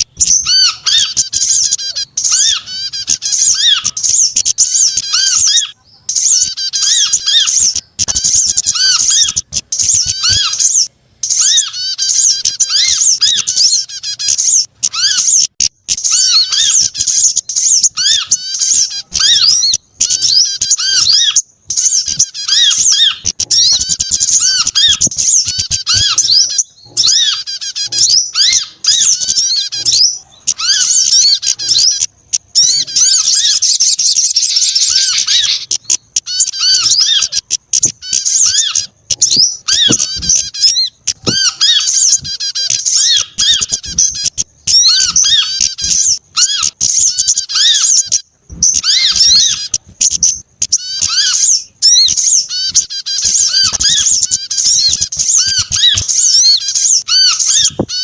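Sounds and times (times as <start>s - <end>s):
songbirds chirping rapidly: 0.0s - 58.0s.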